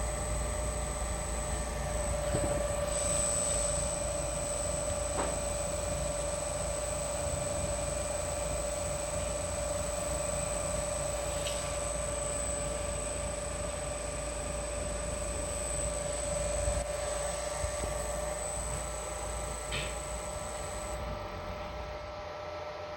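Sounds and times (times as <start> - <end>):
electric motor humming: 0.0 - 22.2.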